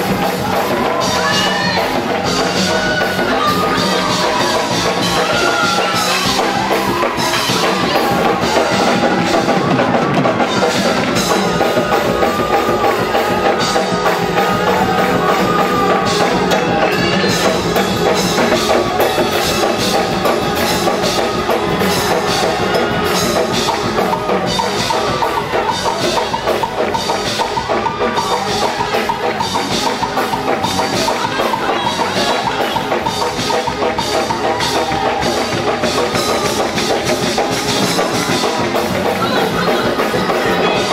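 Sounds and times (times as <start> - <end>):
drum kit beat: 0.0 - 40.9
live gospel band: 0.0 - 40.9.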